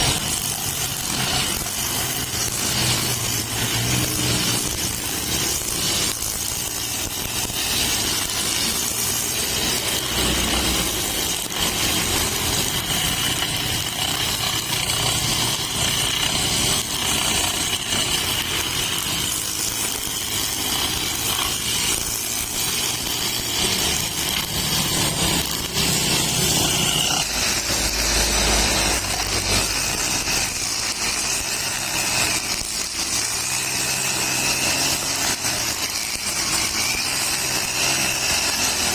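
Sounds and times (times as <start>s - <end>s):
brush cutter high whine: 0.0s - 38.9s.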